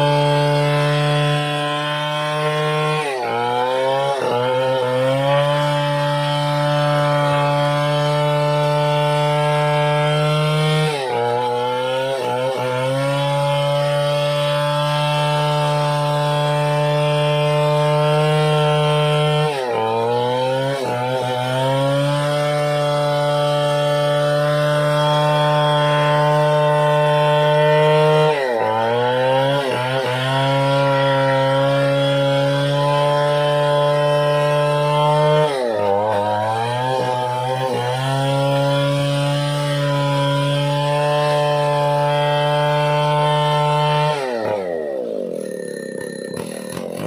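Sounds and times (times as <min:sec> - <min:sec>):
chainsaw cutting wood: 0:00.0 - 0:47.0.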